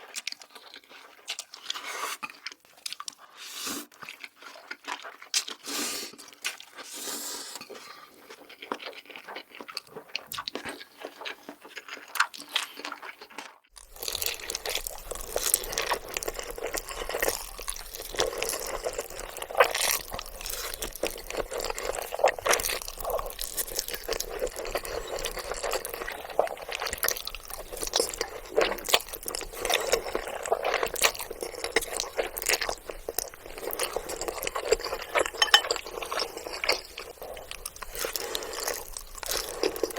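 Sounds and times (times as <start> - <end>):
close chewing noodles: 0.0 - 39.9.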